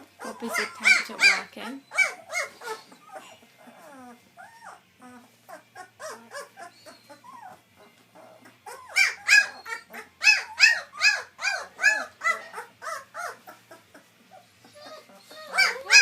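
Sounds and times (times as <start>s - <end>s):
puppies crying: 0.0s - 16.0s.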